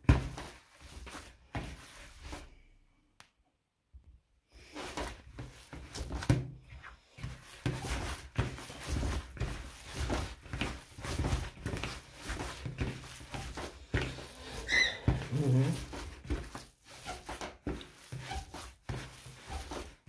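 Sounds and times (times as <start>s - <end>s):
hand kneading minced meat: 0.0s - 2.9s, 4.6s - 20.0s.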